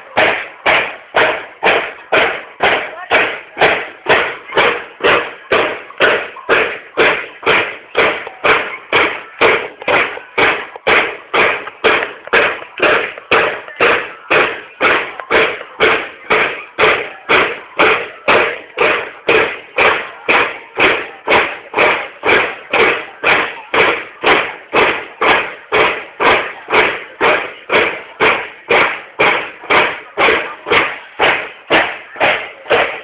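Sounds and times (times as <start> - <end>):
marching drums beating: 0.0 - 33.0.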